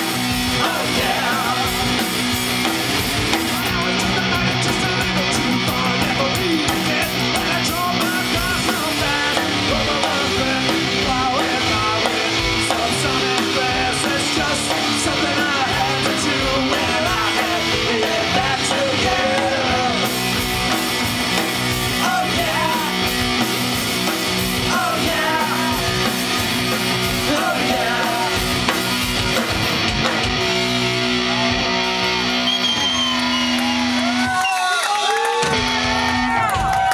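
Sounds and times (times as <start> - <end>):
punk rock band playing: 0.0 - 36.9.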